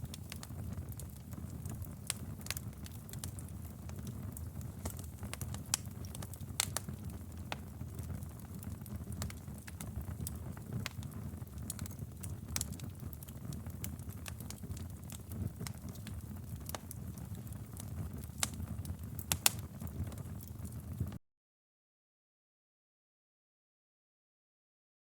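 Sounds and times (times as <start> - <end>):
flames rumbling: 0.0 - 21.2
wood fire crackling: 0.0 - 21.2.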